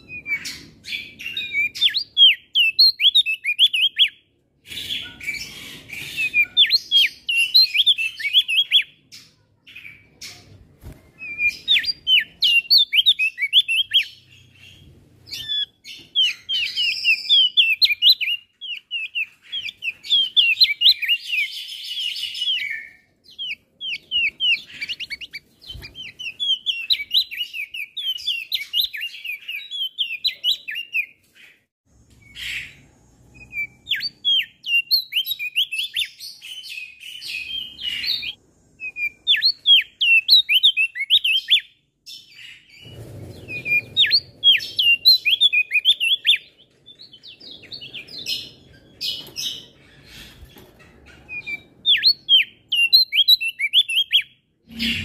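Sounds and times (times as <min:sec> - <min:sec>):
bird chattering song: 0:00.0 - 0:10.5, 0:11.2 - 0:31.6, 0:32.2 - 0:55.0.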